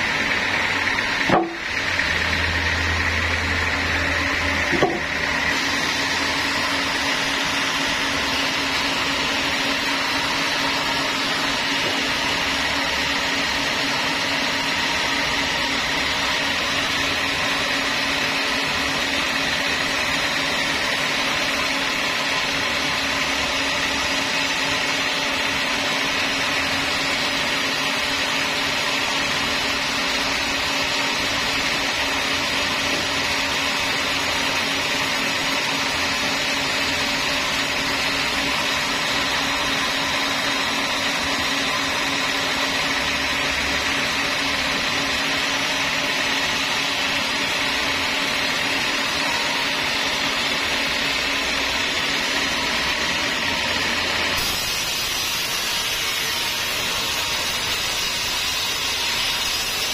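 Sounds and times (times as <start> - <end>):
band sawmill whine: 0.0 - 59.9.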